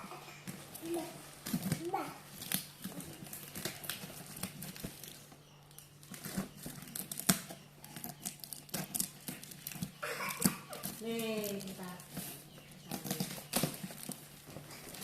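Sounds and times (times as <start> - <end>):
packaging crinkling and tearing: 0.5 - 5.3, 6.0 - 15.0.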